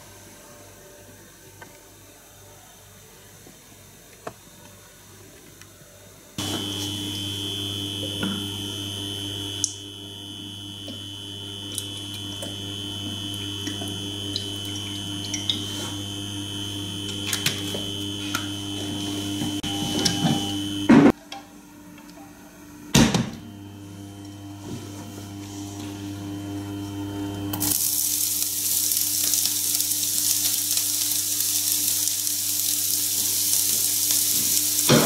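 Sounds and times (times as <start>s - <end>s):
induction hob whine and hum: 6.1s - 35.0s.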